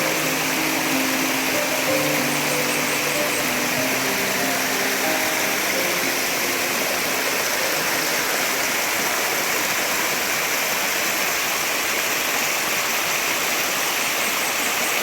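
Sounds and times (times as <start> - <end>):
heavy running water: 0.0 - 15.0.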